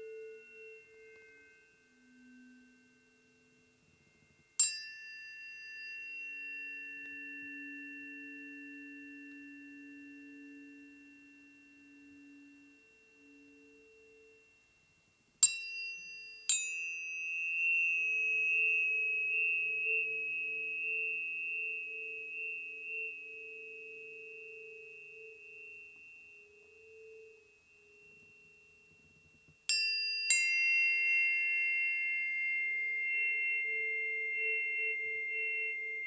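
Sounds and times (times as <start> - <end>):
tuning forks ringing: 0.0 - 36.0.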